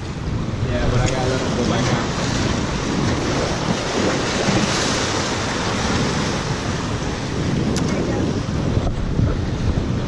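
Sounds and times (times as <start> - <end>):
waves splashing against rocks: 0.0 - 10.0
wind buffeting microphone: 0.0 - 10.0.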